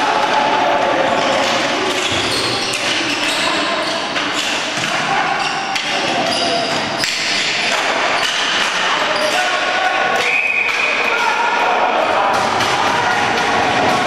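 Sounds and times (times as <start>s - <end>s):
players and spectators shouting: 0.0s - 14.0s
sticks and ball clacking: 1.2s - 5.1s, 5.7s - 14.0s.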